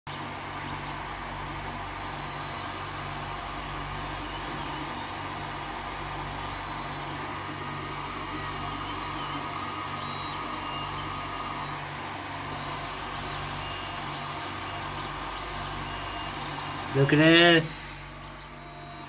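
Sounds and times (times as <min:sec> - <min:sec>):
printer fan hum: 0:00.1 - 0:19.0
stepper motors whining: 0:00.2 - 0:19.0.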